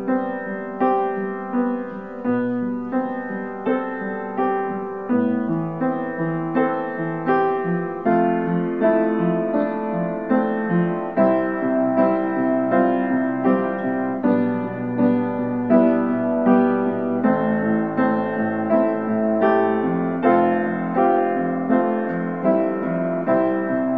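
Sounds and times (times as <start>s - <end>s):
slow gentle solo piano: 0.0s - 23.9s.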